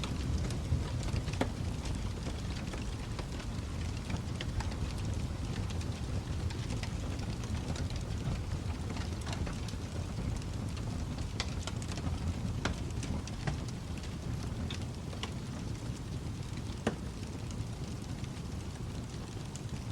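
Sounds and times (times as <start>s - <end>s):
low rumble of flames: 0.0s - 19.9s
wood fire crackling and popping: 0.0s - 19.9s.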